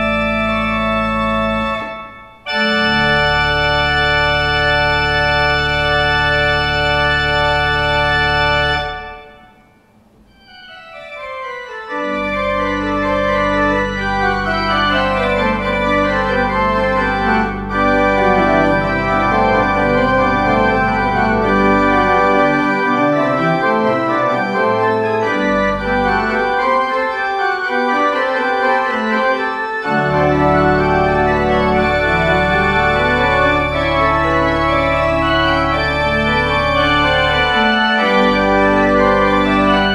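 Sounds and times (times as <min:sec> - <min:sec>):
organ music: 0:00.0 - 0:39.9.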